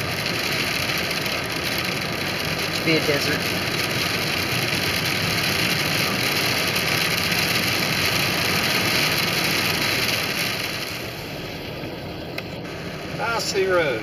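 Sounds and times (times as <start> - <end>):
car cabin road and engine noise: 0.0 - 14.0.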